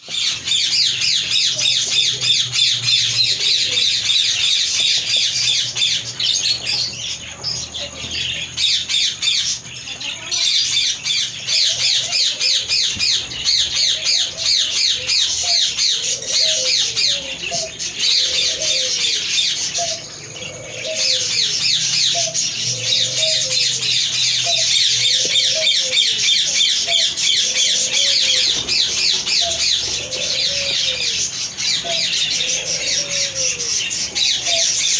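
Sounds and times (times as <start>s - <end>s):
parrots chattering and squawking: 0.0s - 34.9s.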